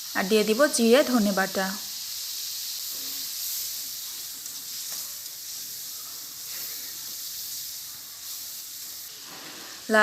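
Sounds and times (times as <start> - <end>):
pastes sizzling in hot oil: 0.0 - 10.0.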